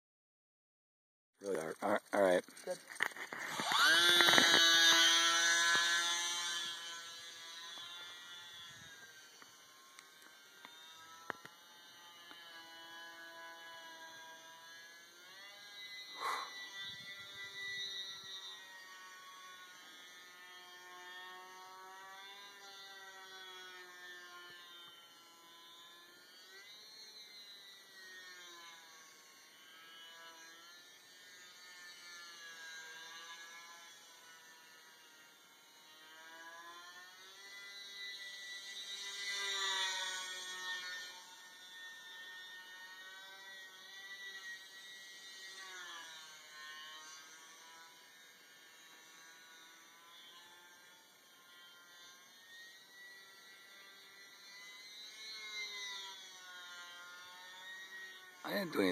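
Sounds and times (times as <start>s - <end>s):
model plane motor whining: 1.4s - 58.9s.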